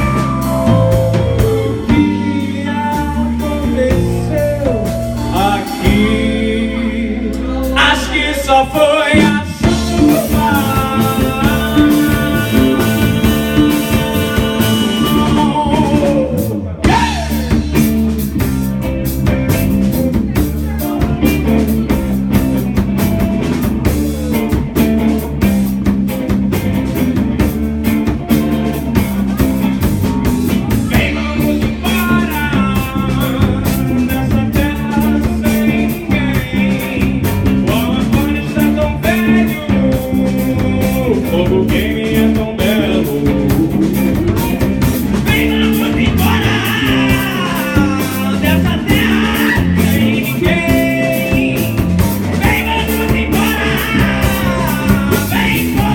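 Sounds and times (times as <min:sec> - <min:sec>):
bass guitar: 0:00.0 - 0:55.9
bending lead guitar melody: 0:00.0 - 0:55.9
drum kit: 0:00.0 - 0:55.9
electric guitar: 0:00.0 - 0:55.9.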